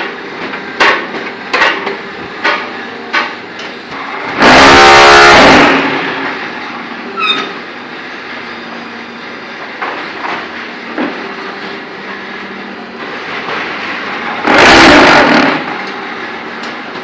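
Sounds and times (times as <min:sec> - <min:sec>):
harsh machine rattling: 0:00.0 - 0:08.5, 0:09.5 - 0:17.0.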